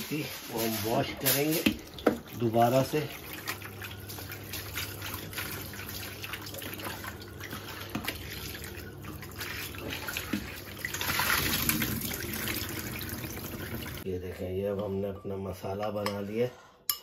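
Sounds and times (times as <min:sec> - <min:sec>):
hands rinsing fish: 0:00.1 - 0:14.0
tap water running: 0:00.1 - 0:14.1.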